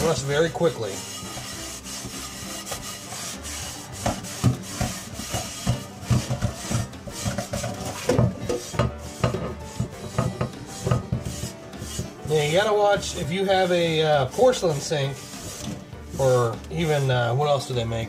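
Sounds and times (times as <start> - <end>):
salt scrubbing cast iron skillet: 0.0 - 18.0.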